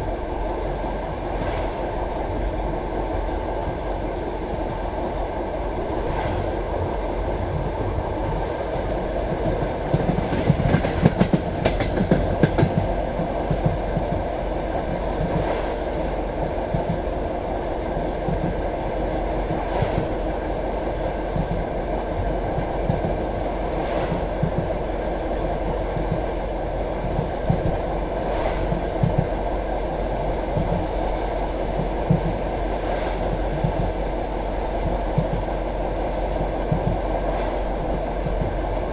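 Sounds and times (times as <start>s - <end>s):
train carriage rumbling on track: 0.0s - 38.9s.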